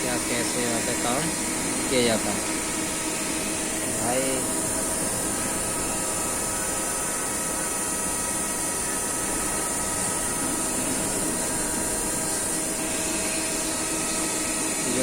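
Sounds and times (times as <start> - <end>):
constant whining tones: 0.0 - 15.0
machinery running drone: 0.0 - 15.0.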